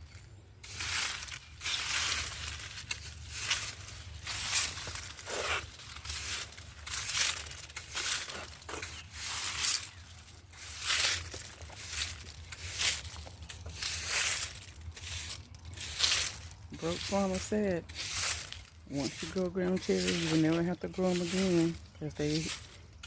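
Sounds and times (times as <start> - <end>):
dry husks rustling and crinkling: 0.0 - 23.0.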